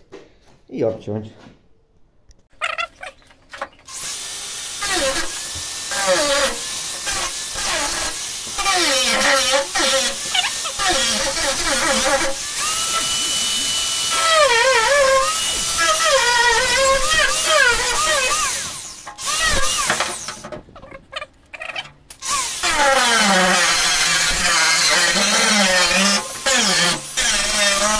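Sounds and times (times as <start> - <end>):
angle grinder cutting steel: 3.9 - 20.5, 21.8 - 27.9.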